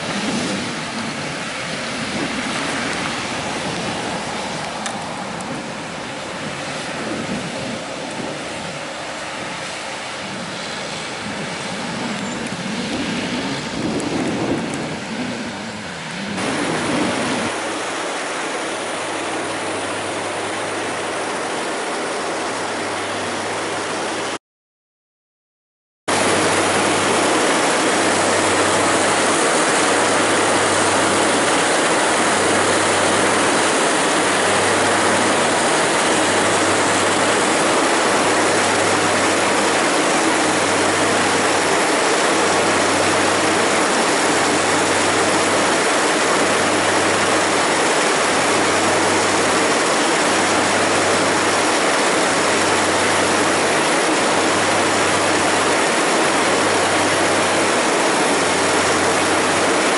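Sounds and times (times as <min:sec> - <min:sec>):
heavy farm machinery running: 0:00.0 - 0:24.4, 0:26.1 - 0:59.9.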